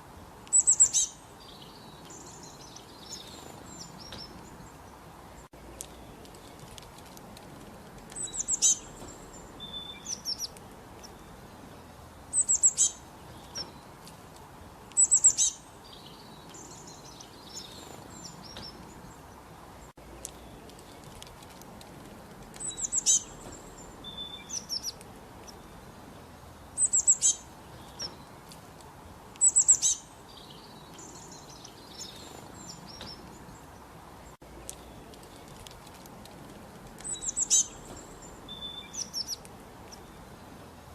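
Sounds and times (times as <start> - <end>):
faint steady hiss: 0.0 - 40.9
songbirds chirping: 0.0 - 40.9.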